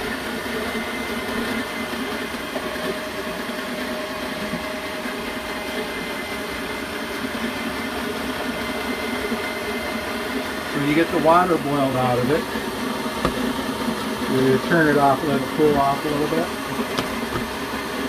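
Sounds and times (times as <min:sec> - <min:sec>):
stand mixer whipping: 0:00.0 - 0:18.0.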